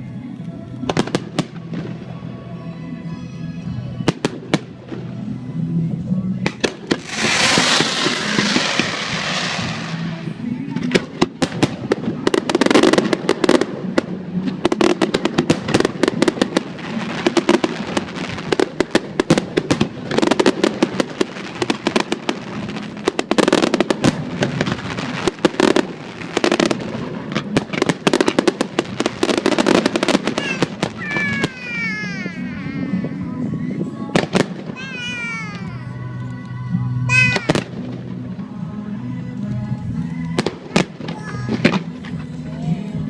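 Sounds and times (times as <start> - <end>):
fireworks bangs and crackles: 0.0 - 2.6, 3.2 - 43.0.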